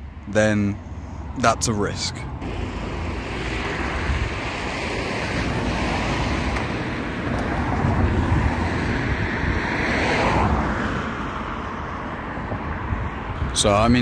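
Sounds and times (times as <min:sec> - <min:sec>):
road traffic rush: 0:00.0 - 0:14.0
wind buffeting microphone: 0:02.3 - 0:14.0.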